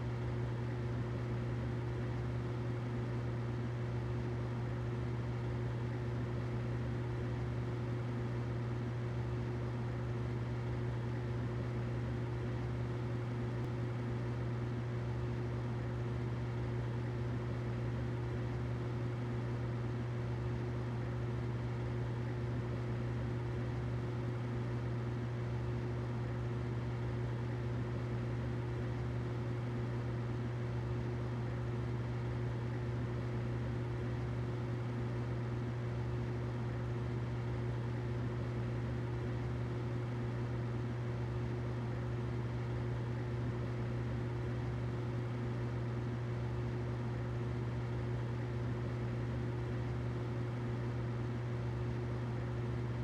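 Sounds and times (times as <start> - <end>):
humidifier humming and hissing: 0.0 - 53.0.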